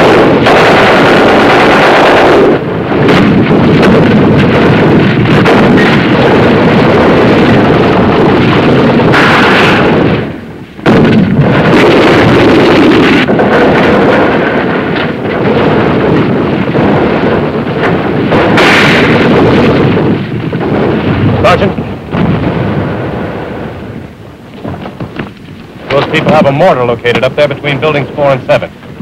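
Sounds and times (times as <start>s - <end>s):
gunfire: 0.0s - 29.0s
shell bursts: 0.0s - 29.0s.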